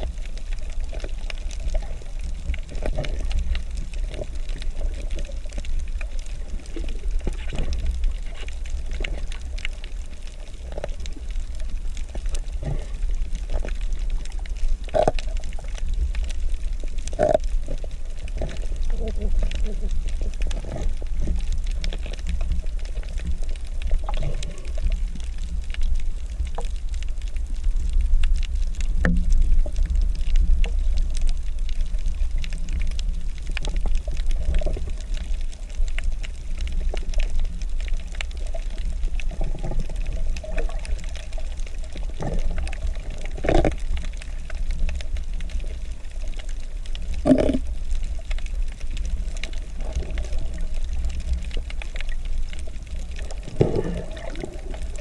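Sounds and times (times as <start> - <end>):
water gurgling bursts: 0.0 - 26.4, 29.3 - 55.0
faint clicks: 0.0 - 55.0
underwater rumble of moving water: 0.0 - 55.0.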